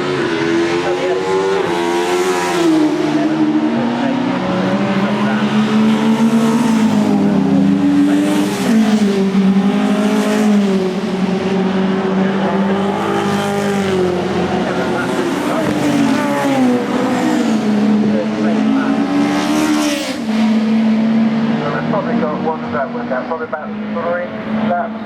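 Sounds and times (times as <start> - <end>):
racing car engines revving: 0.0 - 25.0.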